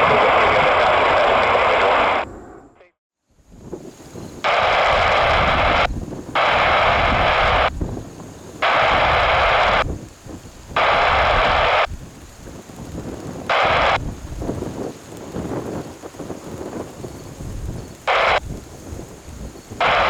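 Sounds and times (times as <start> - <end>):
radio static bursts: 0.0 - 2.9, 4.4 - 20.0.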